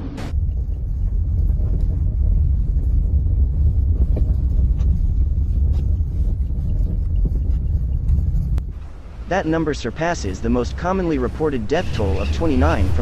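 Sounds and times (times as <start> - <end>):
car rumble on snowy road: 0.0 - 13.0.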